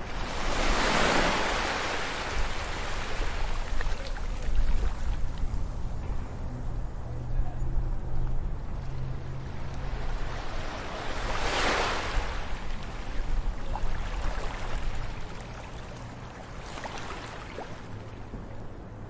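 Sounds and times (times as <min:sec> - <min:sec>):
ocean waves crashing: 0:00.0 - 0:05.7, 0:08.6 - 0:18.2
low surf rumble: 0:01.4 - 0:19.0.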